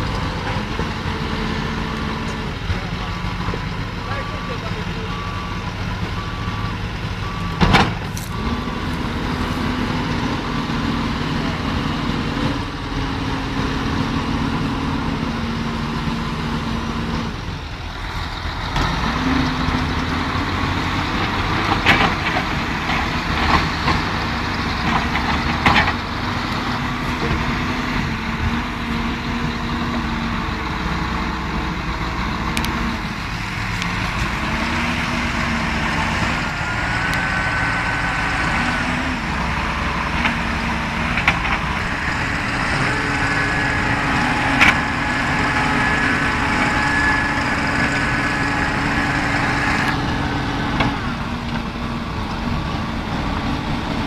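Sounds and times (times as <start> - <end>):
diesel engine of backhoe loader: 0.0 - 54.0.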